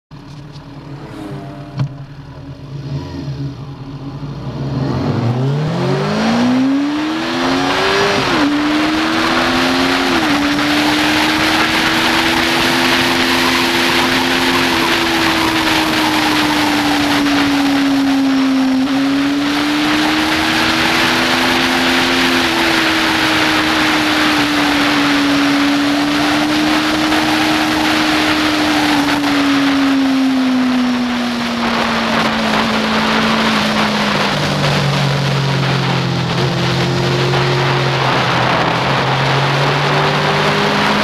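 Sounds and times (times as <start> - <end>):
motorcycle engine accelerating: 0.1 - 41.0
wind rush: 4.9 - 41.0.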